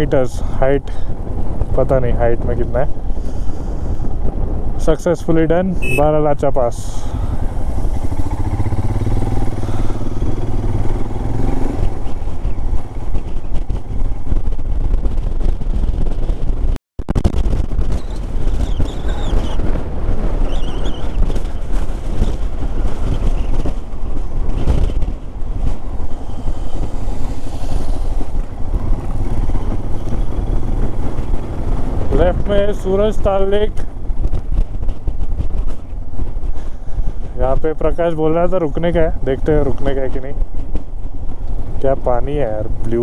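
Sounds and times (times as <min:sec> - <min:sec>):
motorcycle engine running: 0:05.8 - 0:43.0.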